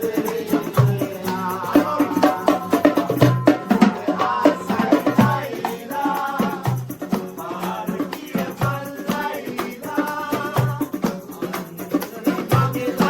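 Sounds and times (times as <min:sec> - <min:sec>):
percussion hits: 0:00.0 - 0:13.0.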